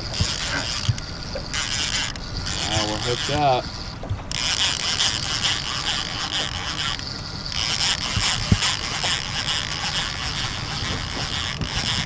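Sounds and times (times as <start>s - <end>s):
fishing reel whirring and clicking: 0.0s - 12.0s.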